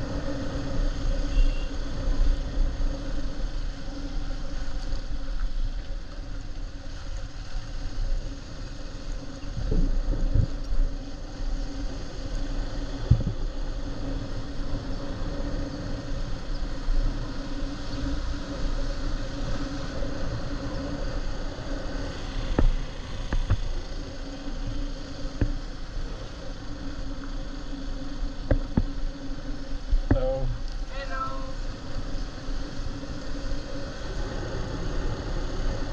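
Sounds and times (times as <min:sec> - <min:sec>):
road and wind noise: 0:00.0 - 0:35.9.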